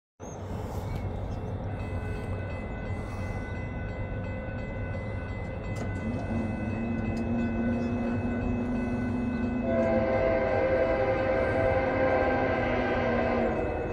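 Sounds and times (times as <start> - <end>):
train rumbling: 0.2 - 13.9.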